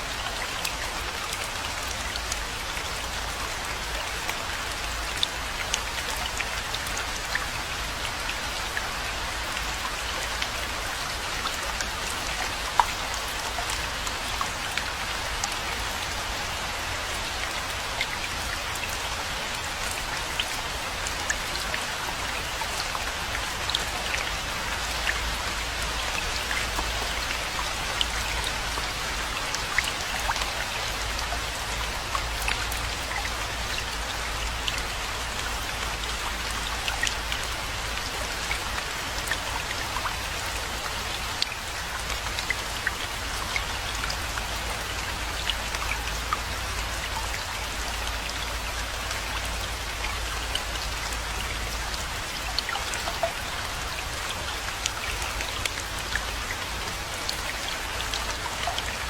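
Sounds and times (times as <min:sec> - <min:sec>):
steady rainfall hiss: 0:00.0 - 0:59.0
raindrops ticking: 0:00.1 - 0:59.0.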